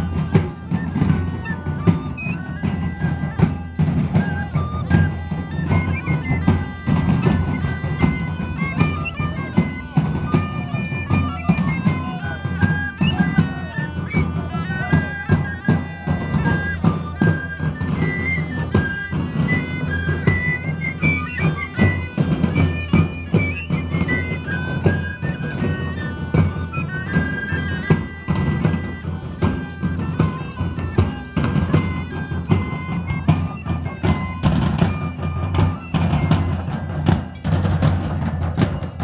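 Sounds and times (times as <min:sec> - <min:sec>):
bagpipes playing a melody: 0:00.0 - 0:39.0
drums beating: 0:00.0 - 0:39.0.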